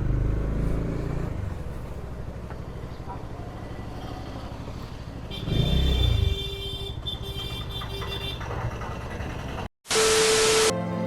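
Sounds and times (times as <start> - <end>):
motorcycle engine and road noise: 0.0 - 9.7.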